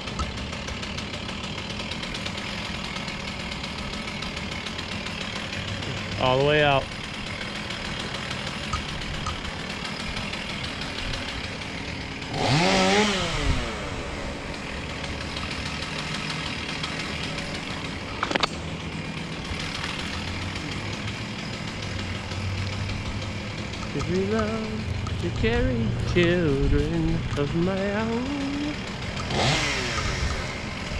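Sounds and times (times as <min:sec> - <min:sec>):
engine idling and revving: 0:00.0 - 0:30.9.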